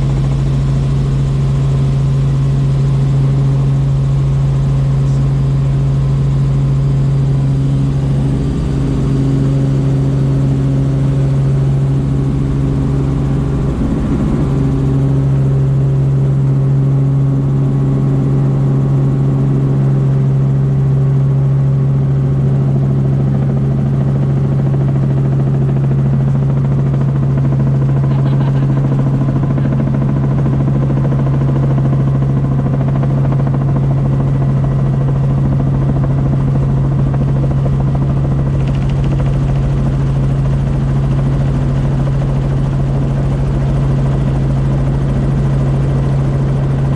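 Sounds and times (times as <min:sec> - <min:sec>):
helicopter droning: 0:00.0 - 0:46.9.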